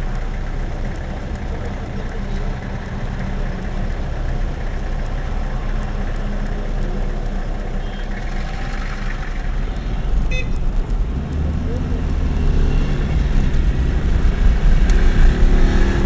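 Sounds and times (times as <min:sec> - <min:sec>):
car engine idling: 0:00.0 - 0:16.0
passing street traffic: 0:00.0 - 0:16.0.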